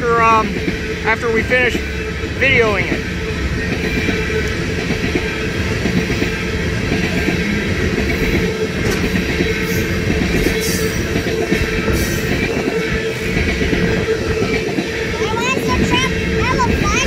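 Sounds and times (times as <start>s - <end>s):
freight train wheels clattering: 0.0s - 17.0s.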